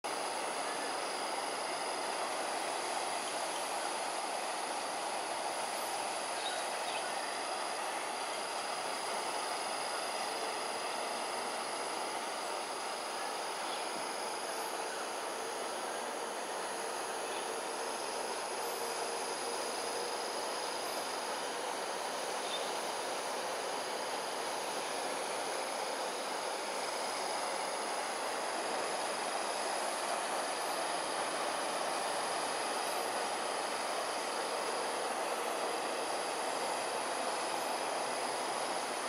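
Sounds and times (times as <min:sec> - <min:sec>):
insects trilling: 0:00.1 - 0:39.0.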